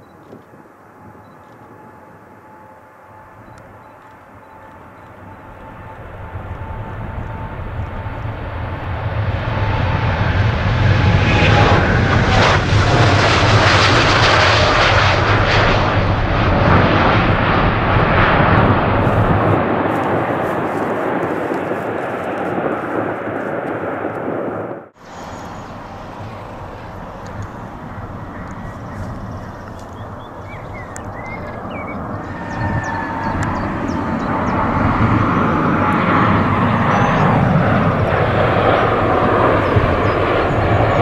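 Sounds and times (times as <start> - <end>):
faint jet engine whine: 0.0 - 41.0
jet engines at takeoff thrust: 0.0 - 41.0.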